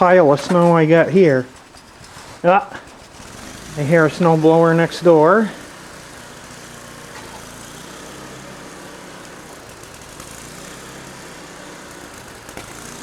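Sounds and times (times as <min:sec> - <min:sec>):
snow blower engine running unevenly: 0:00.0 - 0:13.0.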